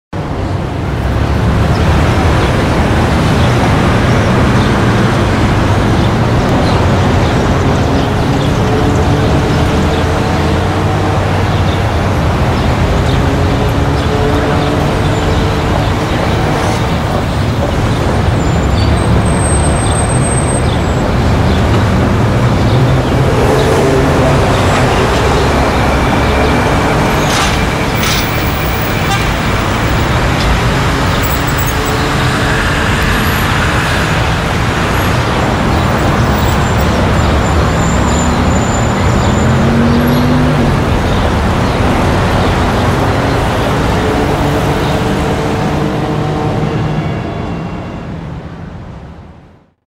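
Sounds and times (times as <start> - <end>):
car and bus engines passing: 0.2 - 49.8.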